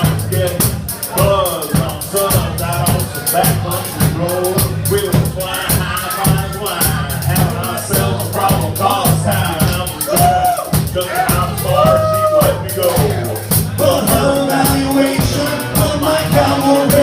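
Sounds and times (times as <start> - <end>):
music with steady beat: 0.0 - 17.0.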